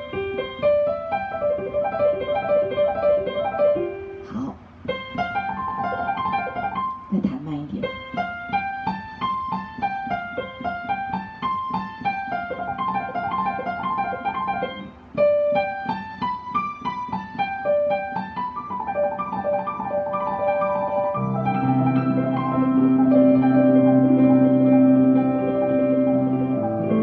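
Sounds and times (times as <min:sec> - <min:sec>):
piano playing rapid repeated figures: 0:00.0 - 0:27.0.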